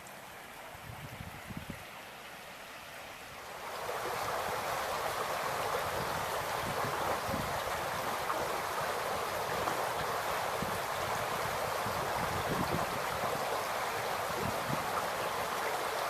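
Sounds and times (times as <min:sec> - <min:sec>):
creek babbling over rocks: 0:01.8 - 0:16.0.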